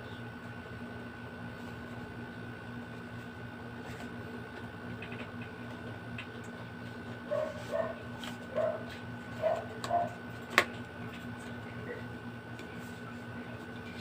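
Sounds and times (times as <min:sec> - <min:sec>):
constant high whine: 0:00.0 - 0:14.0
room hum: 0:00.0 - 0:14.0.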